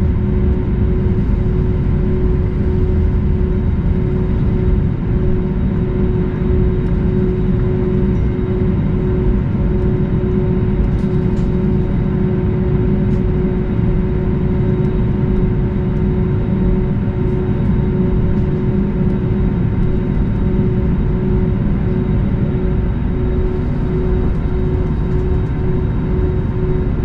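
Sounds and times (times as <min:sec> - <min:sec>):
airplane cabin rumble: 0:00.0 - 0:27.0
steady hum: 0:00.0 - 0:27.0.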